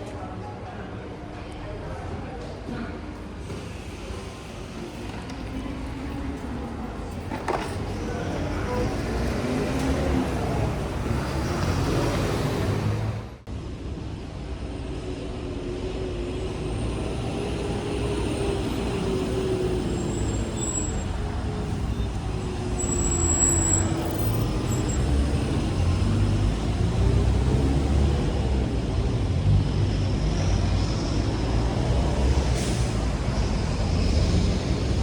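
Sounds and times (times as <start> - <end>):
traffic engine rumble: 1.2 - 35.0.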